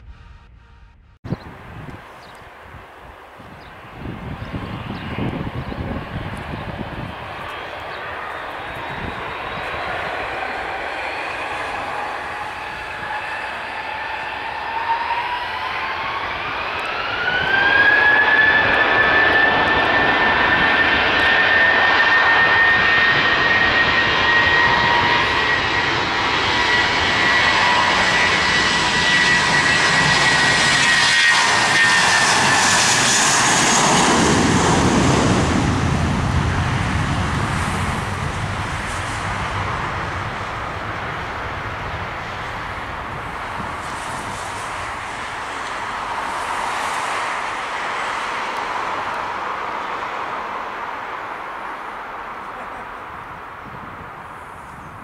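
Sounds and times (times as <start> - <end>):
jet engines whining: 0.0 - 54.9
airliner jet noise passing: 0.0 - 55.0.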